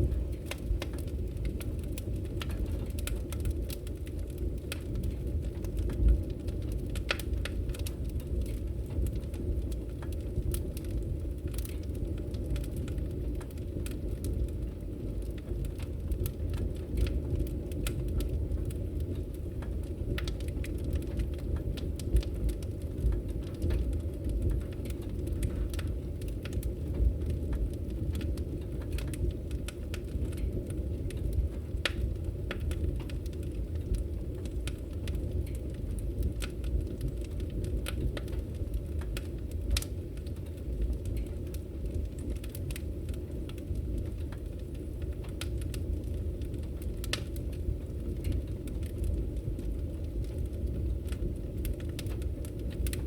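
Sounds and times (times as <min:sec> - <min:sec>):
firewood crackling and popping: 0:00.0 - 0:53.0
flames rumbling: 0:00.0 - 0:53.0.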